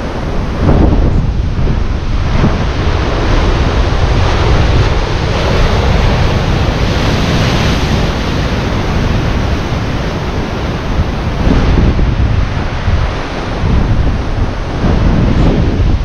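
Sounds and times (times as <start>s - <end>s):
sea waves breaking: 0.0s - 16.0s
wind buffeting microphone: 0.0s - 16.0s.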